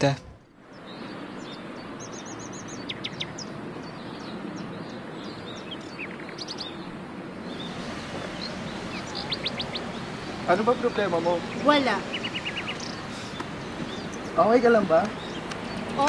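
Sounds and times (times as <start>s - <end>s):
outdoor background rush: 0.0s - 16.0s
small birds chirping: 0.0s - 16.0s.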